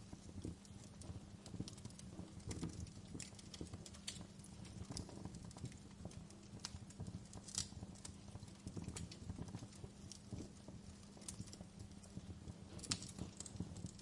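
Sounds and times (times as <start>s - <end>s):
faint steady hum: 0.0s - 14.0s
wood fire crackling: 0.0s - 14.0s.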